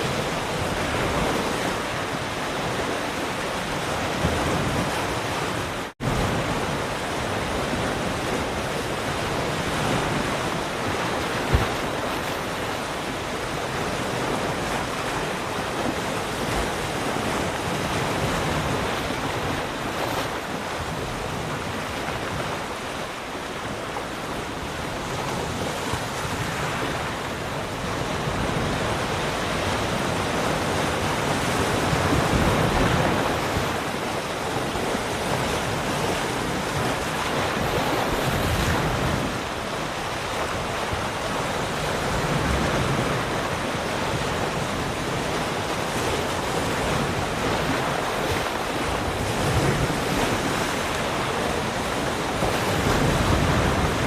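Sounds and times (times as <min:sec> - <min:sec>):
ocean surf waves breaking: 0:00.0 - 0:54.0.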